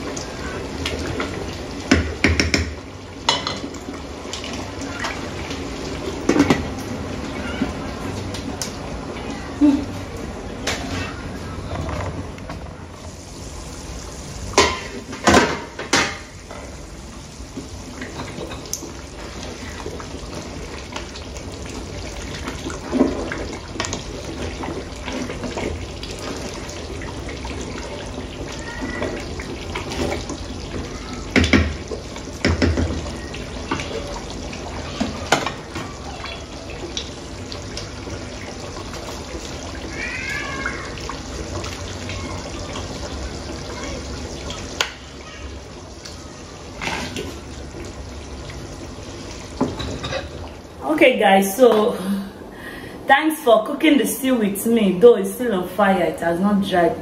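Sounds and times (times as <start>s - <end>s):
stew simmering and bubbling: 0.0s - 57.0s.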